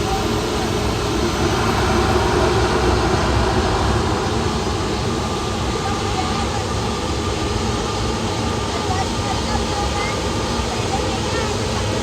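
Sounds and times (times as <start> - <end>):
jet aircraft engines running: 0.0 - 12.0.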